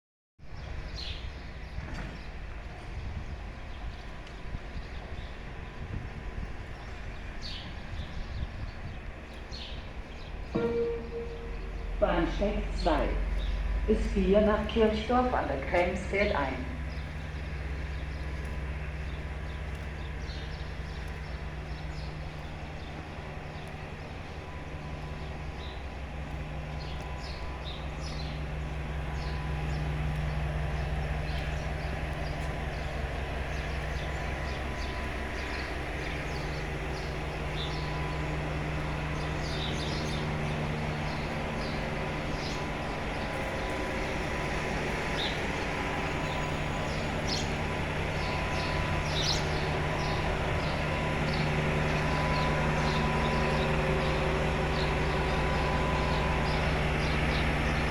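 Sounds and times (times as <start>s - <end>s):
locomotive low drone: 0.4s - 57.9s
birds chirping: 3.6s - 57.9s.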